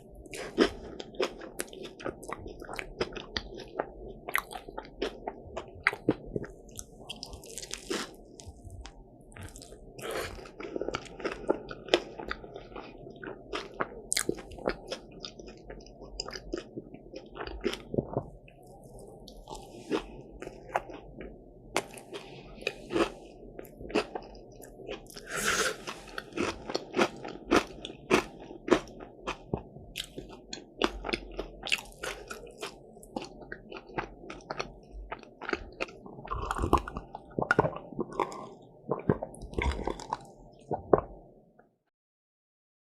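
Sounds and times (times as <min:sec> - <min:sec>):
crunching bites and chewing: 0:00.3 - 0:08.6, 0:09.3 - 0:18.3, 0:21.8 - 0:40.3.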